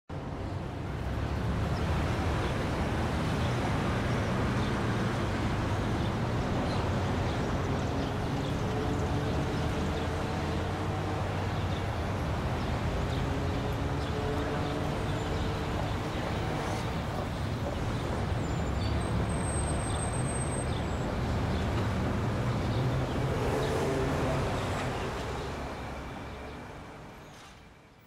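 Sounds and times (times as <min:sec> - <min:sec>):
distant road traffic rumble: 0:00.1 - 0:28.0.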